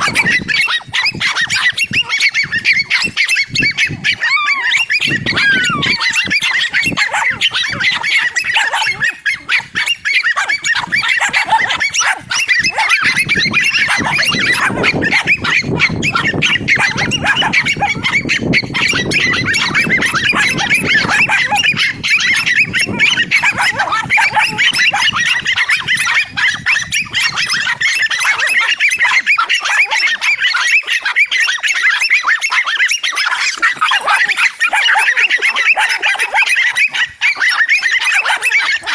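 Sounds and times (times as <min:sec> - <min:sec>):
dogs barking and yapping: 0:00.0 - 0:38.9.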